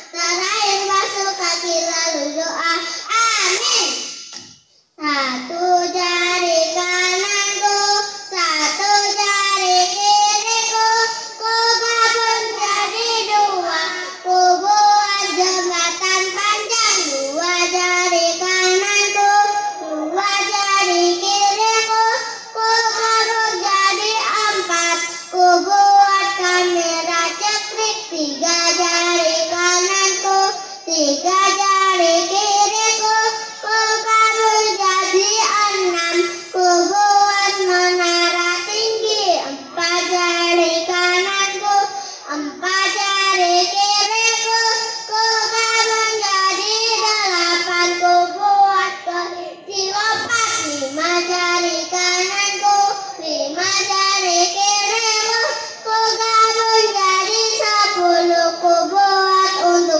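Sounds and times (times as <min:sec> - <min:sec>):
children singing in unison: 0:00.0 - 0:59.9.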